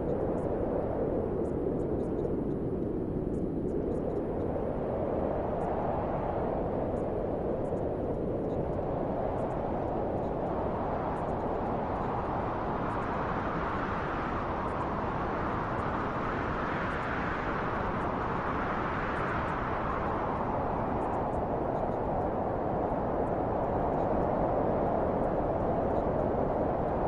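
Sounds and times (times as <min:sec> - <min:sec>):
wind blowing in gusts: 0:00.0 - 0:27.0.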